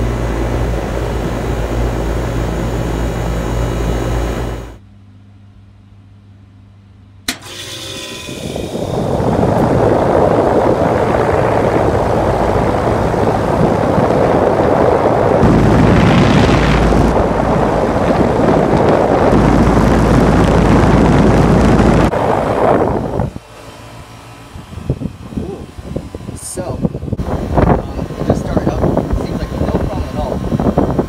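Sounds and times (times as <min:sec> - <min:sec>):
condenser fan air rush: 0:00.0 - 0:05.2, 0:06.9 - 0:31.0
compressor low hum: 0:00.0 - 0:31.0.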